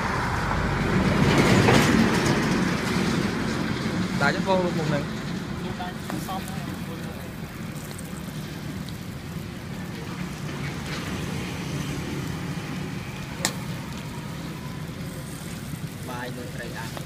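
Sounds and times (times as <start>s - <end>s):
charcoal grill crackling: 0.0s - 17.0s
traffic rumble: 0.0s - 17.0s.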